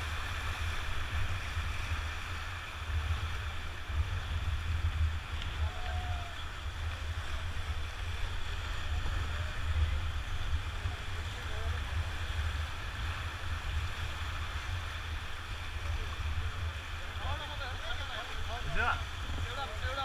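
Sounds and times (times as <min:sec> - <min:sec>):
whitewater rushing: 0:00.0 - 0:20.0.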